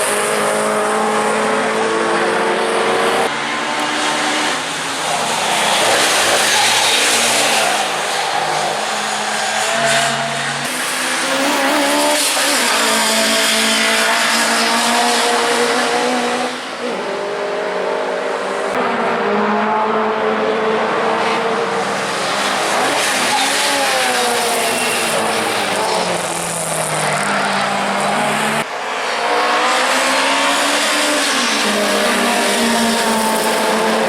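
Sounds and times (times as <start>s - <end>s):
racing car engine revving: 0.0s - 34.0s.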